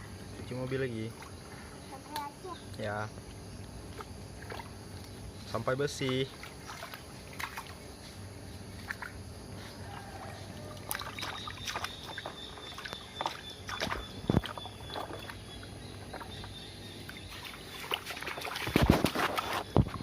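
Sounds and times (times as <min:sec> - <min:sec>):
water sloshing: 0:00.0 - 0:02.4, 0:03.2 - 0:20.0.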